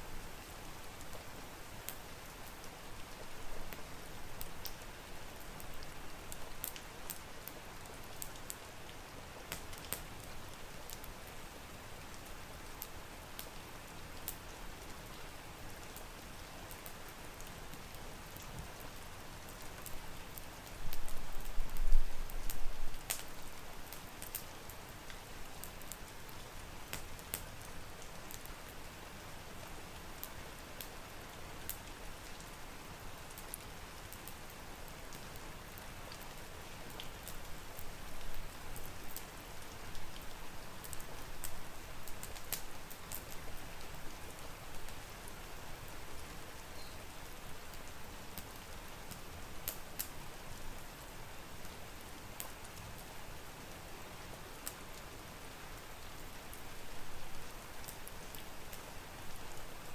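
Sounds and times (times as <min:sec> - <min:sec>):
steady rain falling: 0:00.0 - 0:59.9
wood fire crackling: 0:00.2 - 0:59.9.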